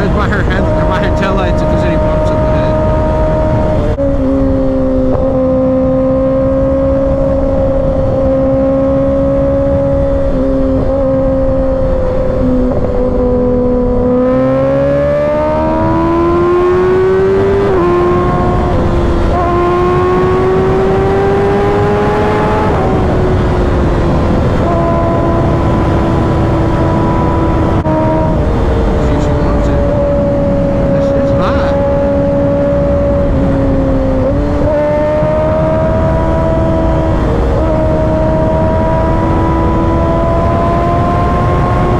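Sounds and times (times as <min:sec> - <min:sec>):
motorcycle engine revving: 0:00.0 - 0:41.9
rushing wind: 0:00.0 - 0:41.9.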